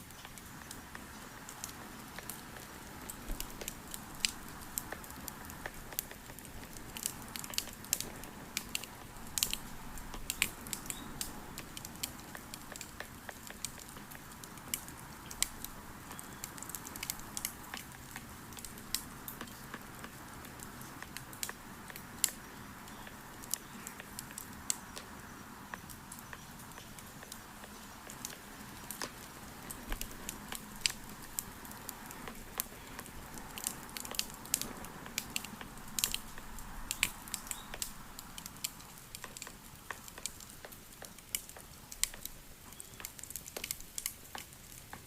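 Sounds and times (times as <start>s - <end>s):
bonfire crackling and popping: 0.0s - 45.0s
low hiss of burning: 0.0s - 45.0s.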